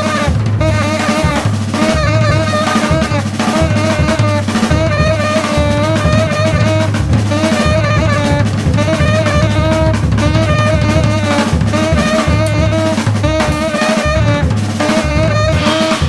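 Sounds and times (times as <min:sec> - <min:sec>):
drum kit groove: 0:00.0 - 0:16.0
saxophone long notes: 0:00.0 - 0:16.0.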